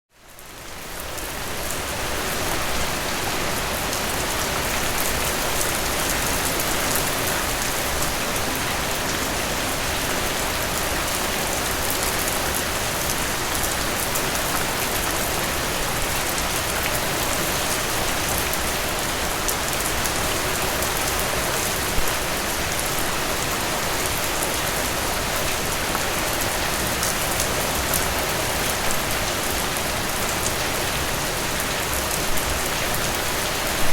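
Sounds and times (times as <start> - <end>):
steady rainfall: 0.1 - 33.9.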